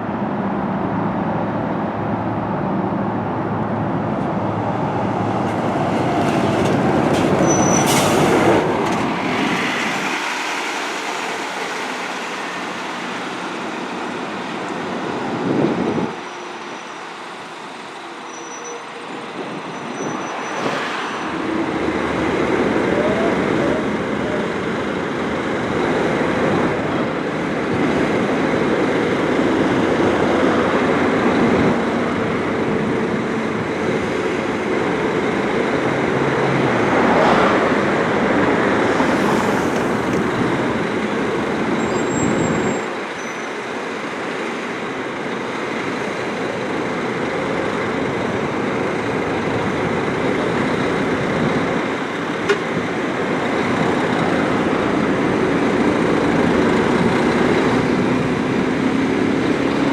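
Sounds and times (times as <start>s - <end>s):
coach engine rumble: 0.0s - 59.9s
road traffic noise: 0.0s - 59.9s.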